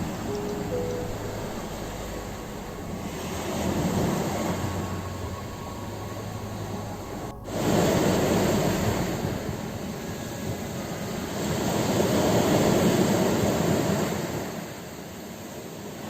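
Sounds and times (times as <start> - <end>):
ocean surf washing ashore: 0.0 - 15.0.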